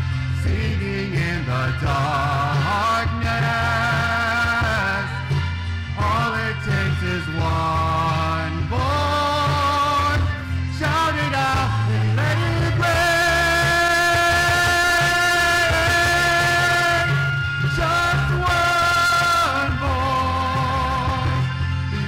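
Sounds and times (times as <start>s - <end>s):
instrumental accompaniment: 0.0s - 22.0s
man singing into microphone: 0.3s - 22.0s
men singing along: 0.4s - 5.4s, 6.0s - 22.0s.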